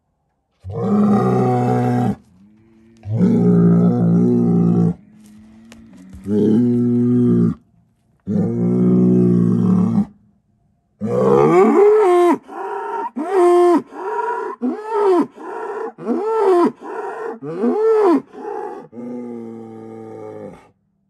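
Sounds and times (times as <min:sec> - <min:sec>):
bull bellowing: 0:00.6 - 0:10.2, 0:11.0 - 0:20.7.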